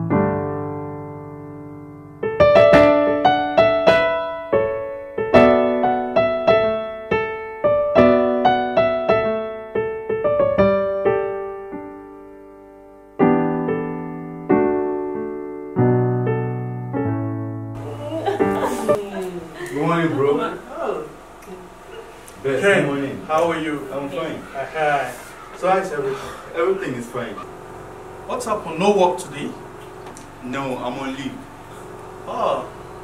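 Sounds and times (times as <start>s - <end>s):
piano music: 0.0s - 19.2s, 22.5s - 33.0s.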